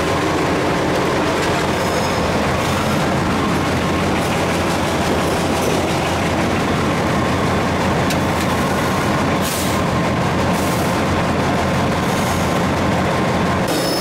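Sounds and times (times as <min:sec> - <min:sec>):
diesel engine throbbing: 0:00.0 - 0:13.7
wheels rumbling on rail: 0:00.0 - 0:14.0.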